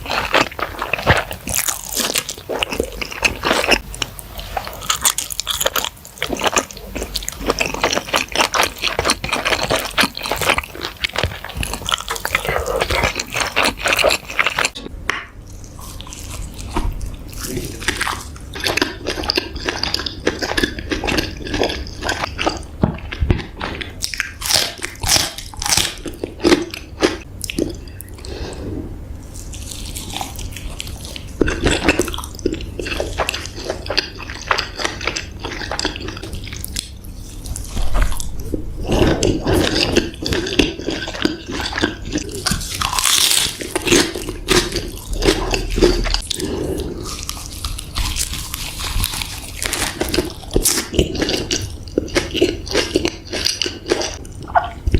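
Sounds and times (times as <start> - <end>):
wet chewing and biting: 0.0 - 28.3, 29.3 - 54.9.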